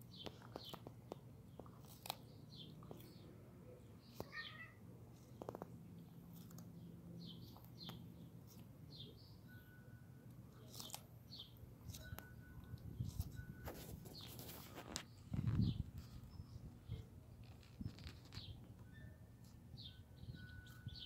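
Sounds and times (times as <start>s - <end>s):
tortoise biting cucumber: 0.0s - 4.3s, 5.0s - 9.2s, 10.2s - 18.8s
small birds chirping: 0.0s - 21.0s.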